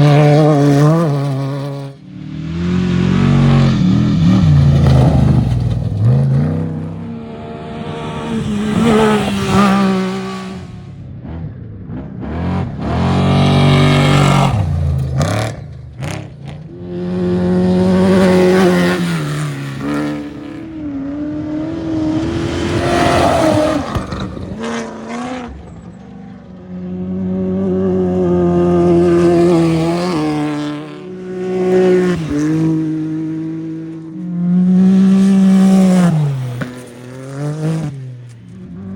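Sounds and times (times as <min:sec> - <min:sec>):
off-road race vehicle engines revving: 0:00.0 - 0:38.9.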